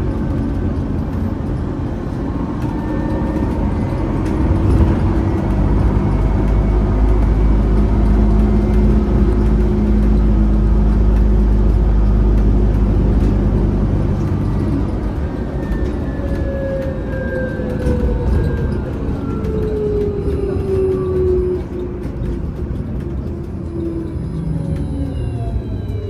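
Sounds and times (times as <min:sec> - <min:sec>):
road and body rumble: 0:00.0 - 0:26.0.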